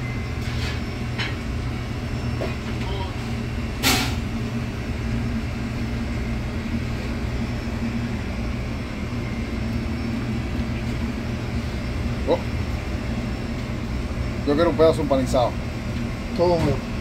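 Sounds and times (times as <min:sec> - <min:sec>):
kitchen machinery drone: 0:00.0 - 0:17.0.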